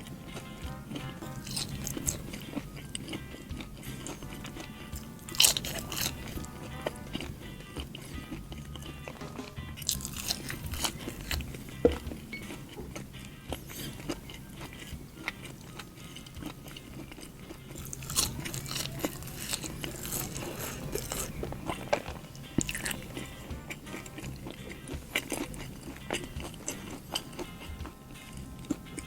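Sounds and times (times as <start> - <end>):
biting and chewing food: 0.0 - 29.0
quiet background music: 0.0 - 29.0.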